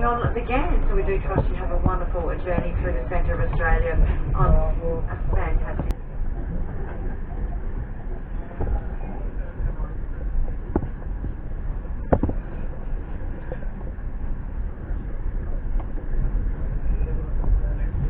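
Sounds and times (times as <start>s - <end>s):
train rumbling at platform: 0.0s - 18.0s.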